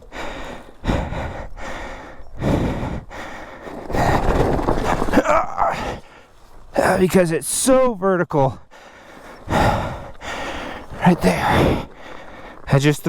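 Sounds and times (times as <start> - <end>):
person breathing heavily: 0.0 - 7.0, 8.5 - 13.0.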